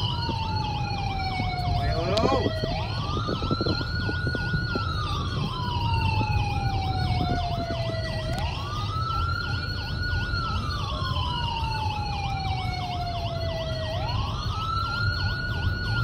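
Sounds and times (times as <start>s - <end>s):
car road rumble: 0.0s - 16.0s
siren wail: 0.0s - 16.0s
siren yelp warbling: 0.0s - 16.0s.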